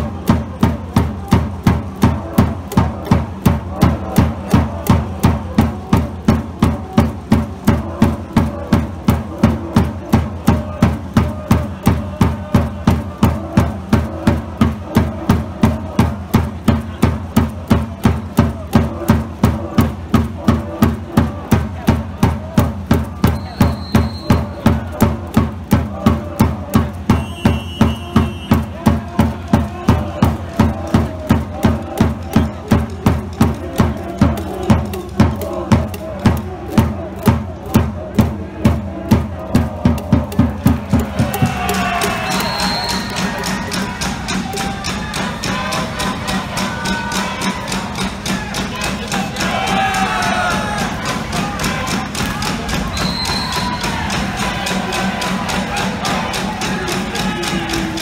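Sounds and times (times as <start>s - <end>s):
crowd noise: 0.0s - 58.0s
spectators beating a rhythm: 0.0s - 58.0s.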